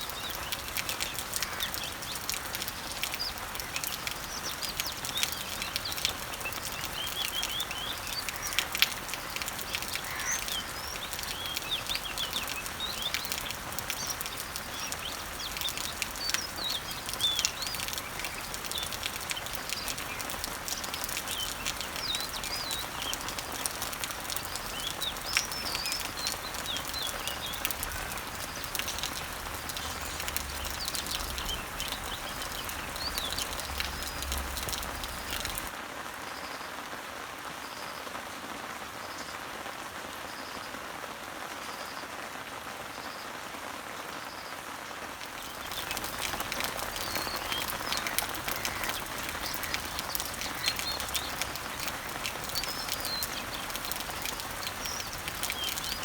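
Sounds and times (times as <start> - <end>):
small birds chirping: 0.0 - 35.8, 45.2 - 56.0
rain falling on leaves: 0.0 - 56.0.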